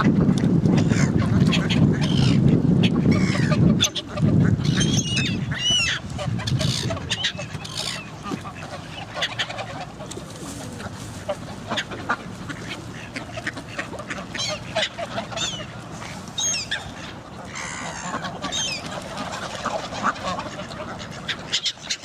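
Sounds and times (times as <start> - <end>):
ducks quacking: 0.0 - 22.0
geese honking: 0.8 - 22.0.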